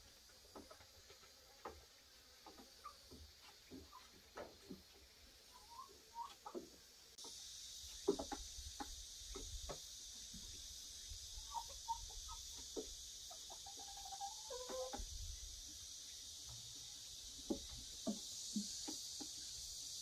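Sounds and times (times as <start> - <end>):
chickens clucking: 0.0 - 6.8, 7.9 - 10.5, 11.2 - 19.8
steady high hiss: 0.0 - 20.0.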